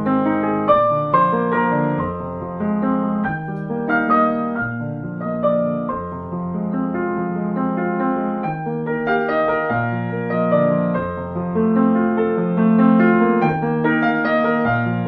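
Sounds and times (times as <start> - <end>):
slow soft piano music: 0.0 - 15.0.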